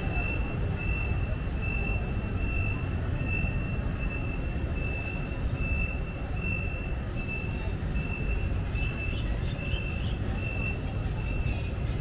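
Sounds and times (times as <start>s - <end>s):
high electronic beep: 0.0s - 11.5s.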